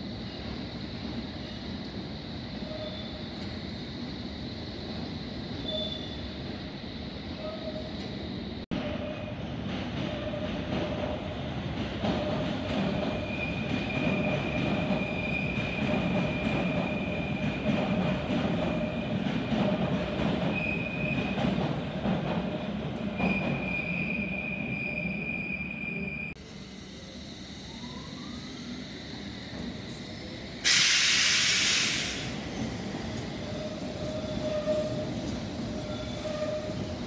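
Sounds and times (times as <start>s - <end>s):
train rumble: 0.0s - 24.5s, 26.0s - 37.0s
wheels squealing on rails: 2.5s - 3.7s, 5.0s - 6.6s, 7.3s - 11.3s, 12.0s - 22.0s, 23.0s - 37.0s.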